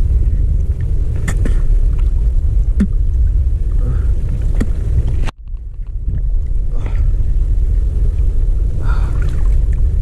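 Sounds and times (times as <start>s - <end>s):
choppy water rumble: 0.0s - 10.0s
wind buffeting microphone: 0.0s - 10.0s.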